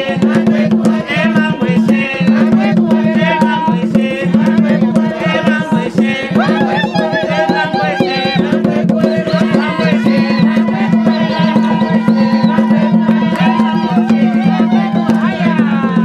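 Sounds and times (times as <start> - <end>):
fast hand-drum rhythm: 0.0 - 16.0
voices singing: 0.0 - 16.0.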